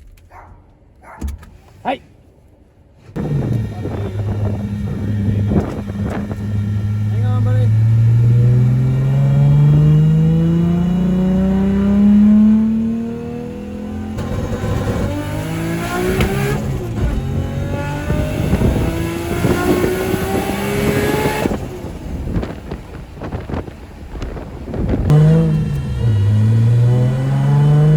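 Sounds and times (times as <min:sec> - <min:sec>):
car engine revving through gears: 0:03.2 - 0:23.6, 0:24.3 - 0:27.9.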